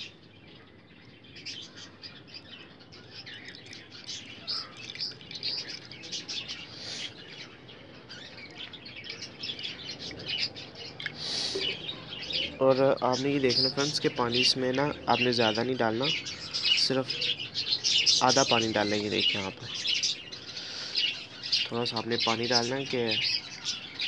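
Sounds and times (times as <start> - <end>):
small birds chirping and chattering: 0.0 - 24.0.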